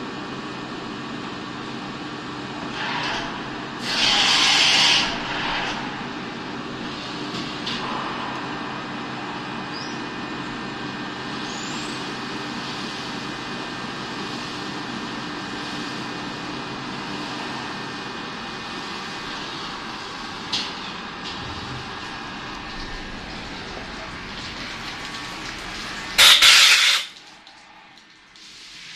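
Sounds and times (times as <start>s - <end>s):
milling machine running: 0.0s - 28.2s.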